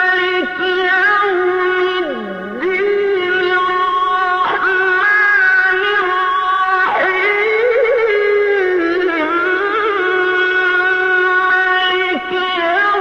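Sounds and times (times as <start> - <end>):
voice chanting recitation: 0.0 - 13.0.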